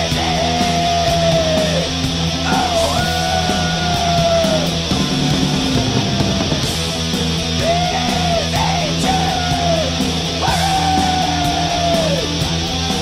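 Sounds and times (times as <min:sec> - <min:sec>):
distorted electric guitar: 0:00.0 - 0:13.0
low bass: 0:00.0 - 0:13.0.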